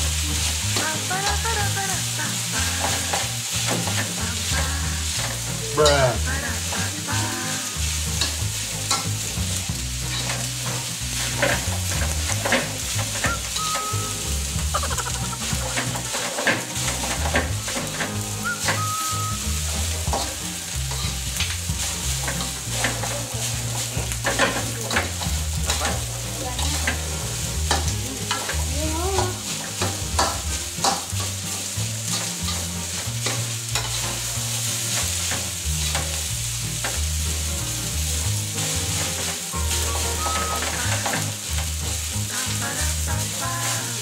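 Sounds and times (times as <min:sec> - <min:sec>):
rice sizzling in wok: 0:00.0 - 0:44.0
metal spatula scraping and clanking: 0:02.8 - 0:37.0, 0:38.5 - 0:42.1.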